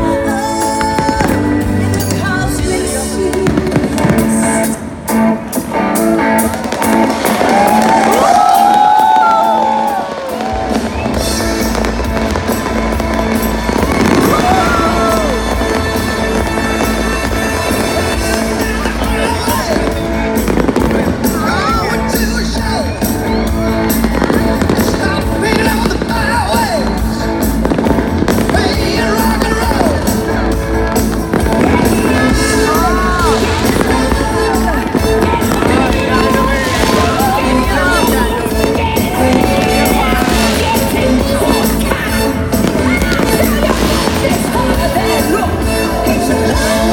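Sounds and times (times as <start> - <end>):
loud music: 0.0 - 46.9
firework bangs: 0.7 - 46.9.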